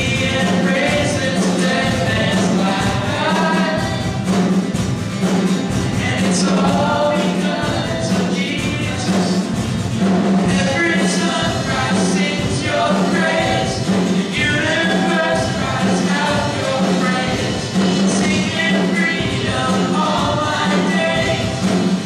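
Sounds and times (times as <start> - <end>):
group of voices singing: 0.0 - 22.0
keyboard: 0.0 - 22.0
strummed acoustic guitars: 0.0 - 22.0.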